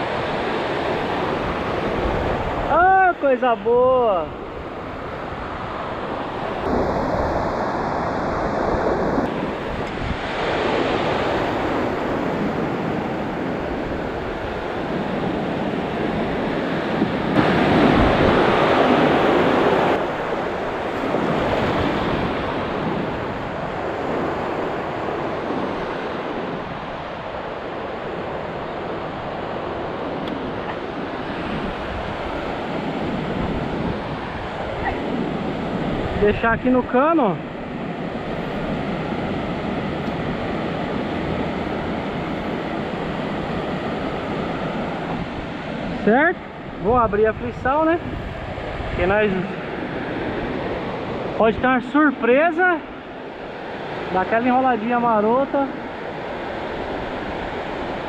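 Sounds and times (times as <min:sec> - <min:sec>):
surf breaking on beach: 0:00.0 - 0:58.0
wind on microphone: 0:00.0 - 0:58.0.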